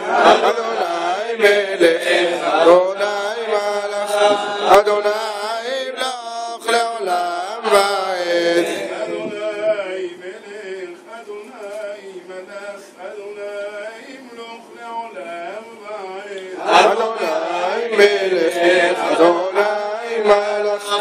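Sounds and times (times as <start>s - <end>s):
men chanting prayers: 0.0s - 21.0s.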